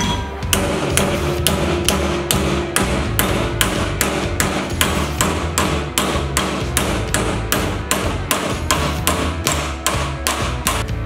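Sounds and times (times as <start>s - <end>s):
hammer striking steel plate: 0.0s - 10.9s.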